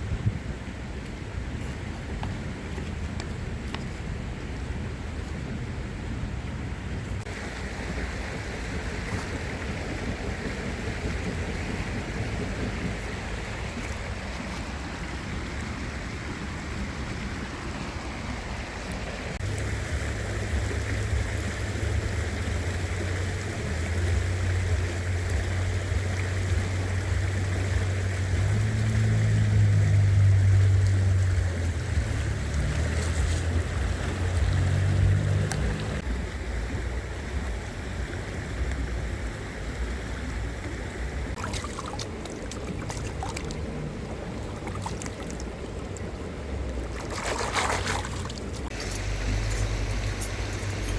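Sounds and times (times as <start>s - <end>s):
stream water rushing: 0.0s - 50.9s
wind buffeting microphone: 0.0s - 50.9s.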